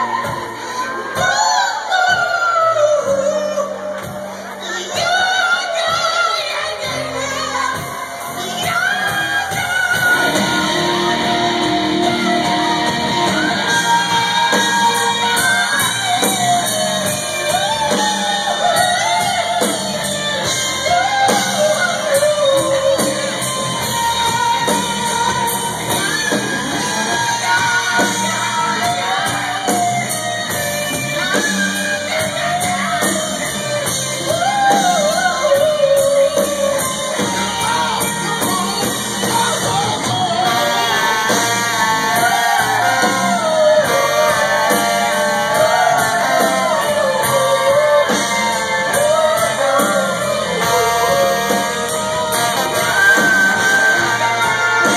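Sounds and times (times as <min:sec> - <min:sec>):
lead singer singing: 0:00.0 - 0:54.9
live band playing: 0:00.0 - 0:54.9.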